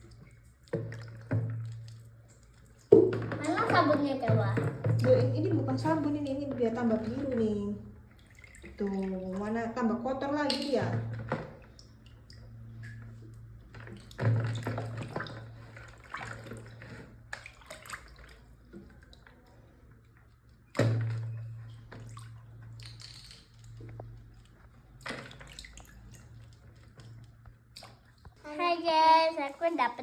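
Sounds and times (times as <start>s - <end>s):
water sloshing in a basin: 0.0s - 30.0s.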